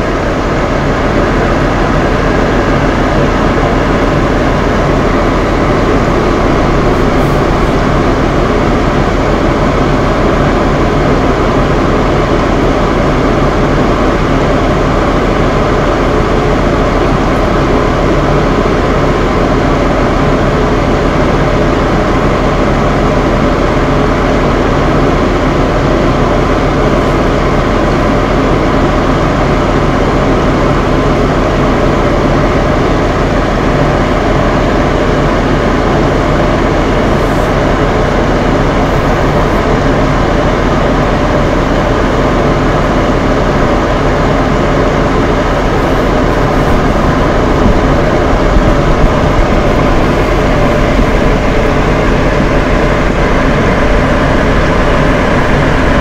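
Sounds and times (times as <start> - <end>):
fan heaters blowing and humming: 0.0 - 56.0.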